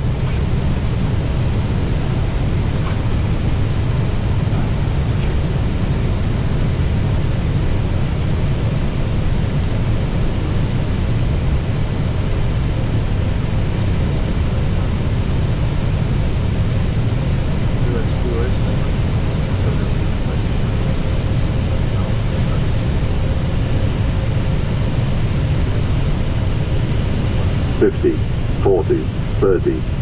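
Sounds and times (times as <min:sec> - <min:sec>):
low engine rumble: 0:00.0 - 0:30.0
rush of airflow over cockpit: 0:00.0 - 0:30.0.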